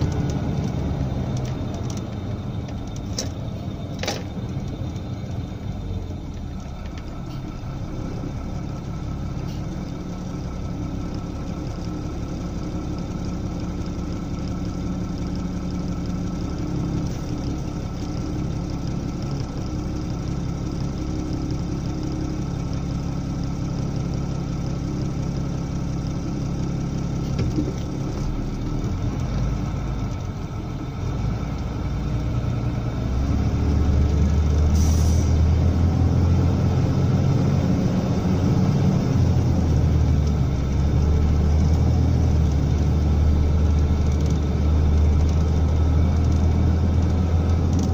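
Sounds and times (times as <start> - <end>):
vehicle engine and road noise: 0.0 - 47.9.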